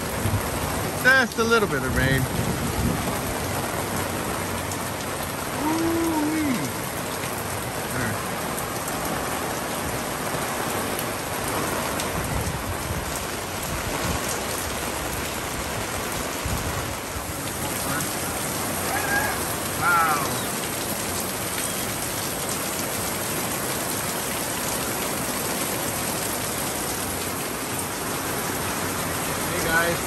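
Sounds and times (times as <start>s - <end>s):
heavy rain on fabric awning: 0.0s - 30.0s.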